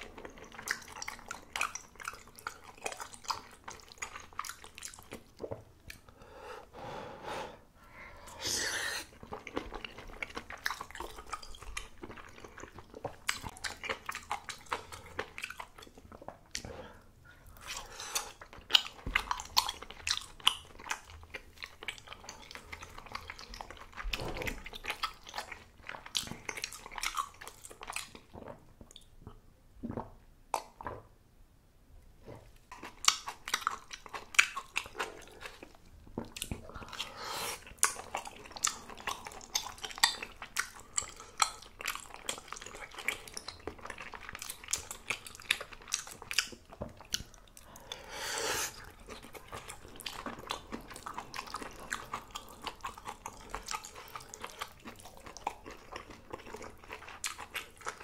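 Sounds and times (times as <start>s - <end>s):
chewing and mouth smacks: 0.0s - 6.1s, 9.0s - 16.7s, 17.4s - 31.0s, 32.3s - 48.1s, 48.7s - 58.0s.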